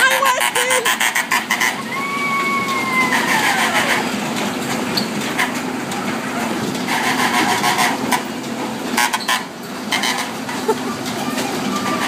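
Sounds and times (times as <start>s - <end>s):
carnival ride mechanical rumble: 0.0s - 12.0s.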